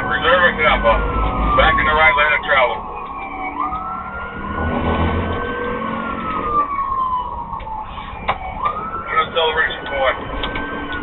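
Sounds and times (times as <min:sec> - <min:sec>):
police siren wailing: 0:00.0 - 0:11.0
vehicle rumble: 0:00.0 - 0:11.0.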